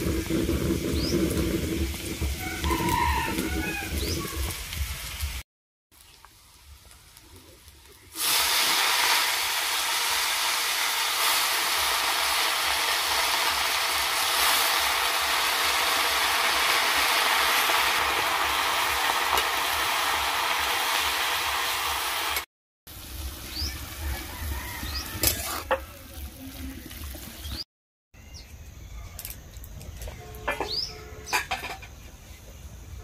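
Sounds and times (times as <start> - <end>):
greens sizzling in hot oil: 0.0 - 27.6.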